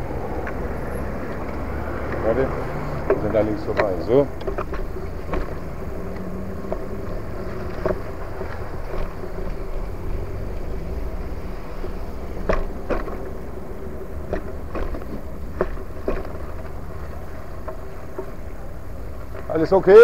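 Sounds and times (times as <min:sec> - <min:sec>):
bicycle tyre and wind noise: 0:00.0 - 0:20.0
bike knocks and rattles: 0:02.1 - 0:20.0.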